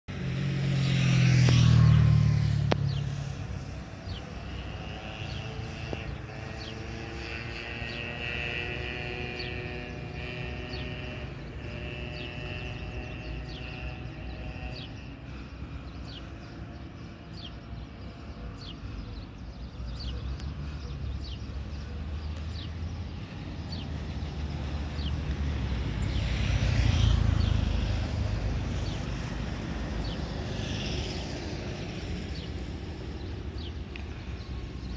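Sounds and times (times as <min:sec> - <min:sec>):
distant jet engines rumbling: 0:00.1 - 0:34.9.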